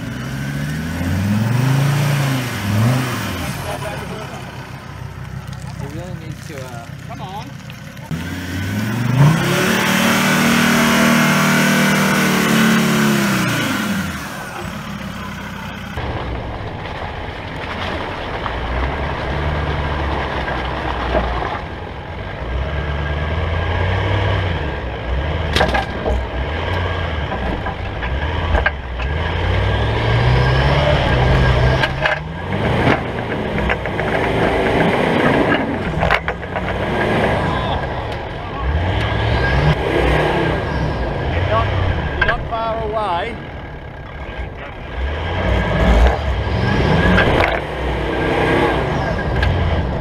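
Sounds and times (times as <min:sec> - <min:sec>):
off-road vehicle engine revving: 0:00.0 - 0:16.2, 0:18.3 - 0:50.0.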